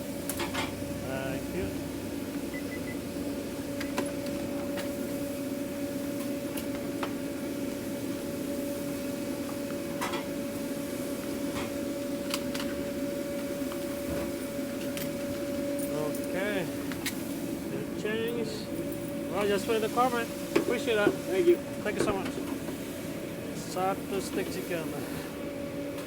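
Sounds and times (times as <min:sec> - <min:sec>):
mechanical hum: 0:00.0 - 0:26.0.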